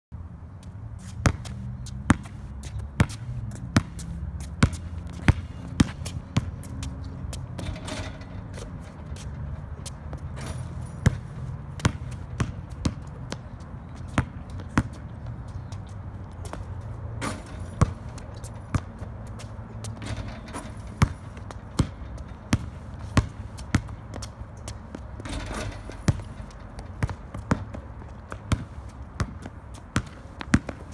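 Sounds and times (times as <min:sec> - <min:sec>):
basketball bouncing on concrete: 0:01.0 - 0:30.9.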